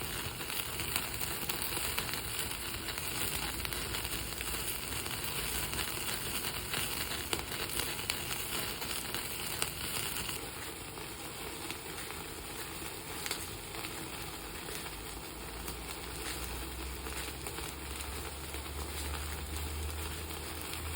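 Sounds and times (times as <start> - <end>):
meat sizzling: 0.0 - 20.9
wood fire crackling and popping: 0.0 - 20.9.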